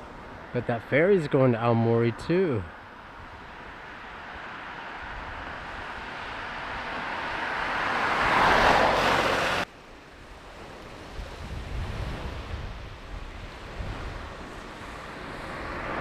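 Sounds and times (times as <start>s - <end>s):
wind buffeting microphone: 0.0s - 9.7s, 10.4s - 16.0s
sea waves washing on shore: 0.0s - 16.0s.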